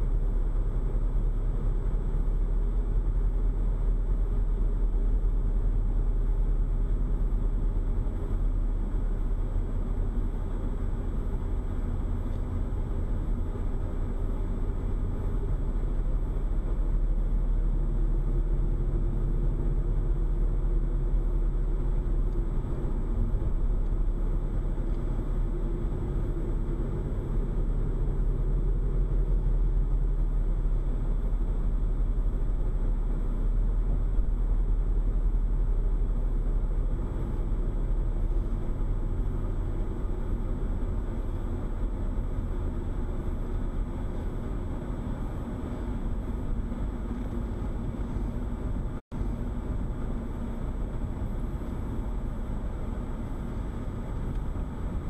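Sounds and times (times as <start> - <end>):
car driving on paved road: 0.0 - 55.0.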